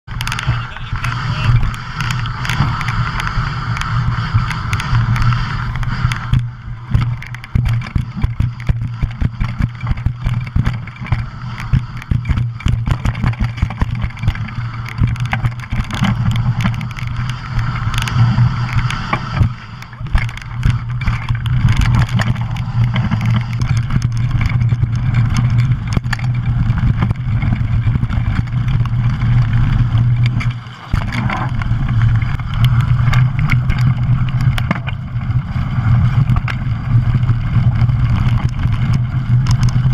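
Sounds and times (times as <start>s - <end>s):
bike rattling over bumps: 0.0s - 39.9s
bike tyres rumbling on dirt: 0.0s - 39.9s.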